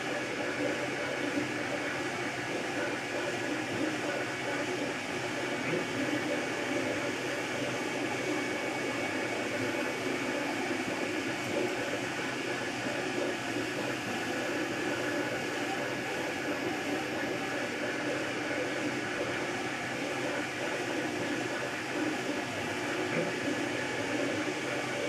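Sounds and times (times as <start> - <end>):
cooling fan whirring: 0.0 - 25.0.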